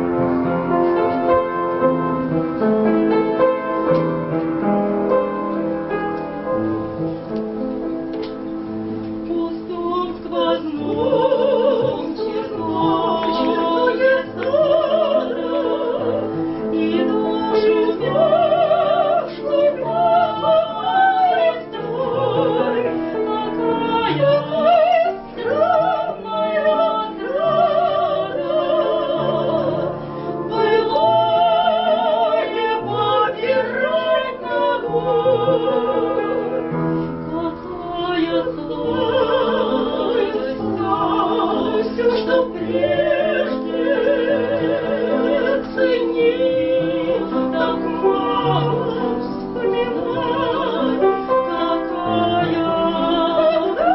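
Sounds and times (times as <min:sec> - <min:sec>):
instrumental accompaniment: 0:00.0 - 0:53.9
operatic soprano singing: 0:09.2 - 0:53.9.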